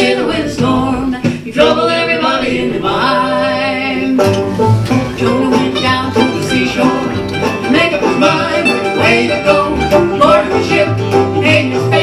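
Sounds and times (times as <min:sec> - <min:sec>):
acoustic guitar: 0:00.0 - 0:12.0
picked banjo: 0:00.0 - 0:12.0.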